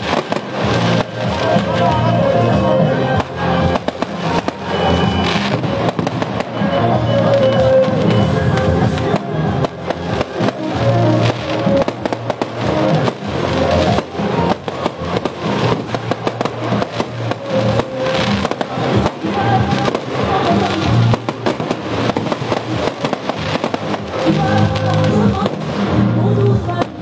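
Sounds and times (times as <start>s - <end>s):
fireworks bangs and crackles: 0.0s - 27.0s
music: 0.0s - 27.0s.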